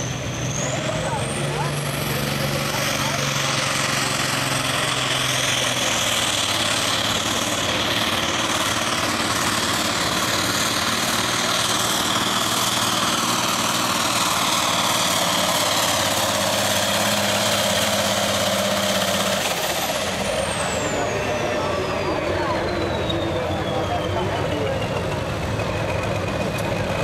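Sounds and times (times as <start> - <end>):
diesel engine running under load: 0.0 - 27.0
high turbo whine: 0.0 - 27.0.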